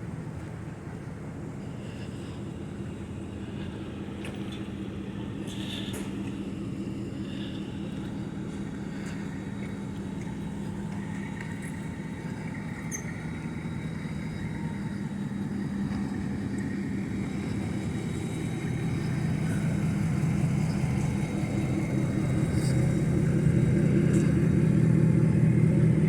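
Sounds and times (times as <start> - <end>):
motor vehicle rumbling: 0.0 - 26.0.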